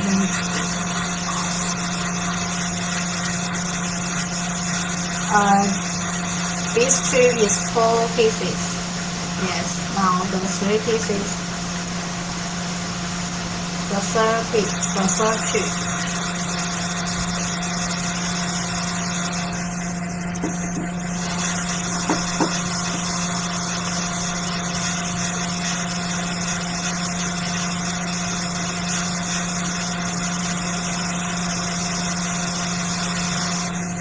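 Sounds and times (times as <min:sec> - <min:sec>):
hot air fan hum: 0:00.0 - 0:34.0.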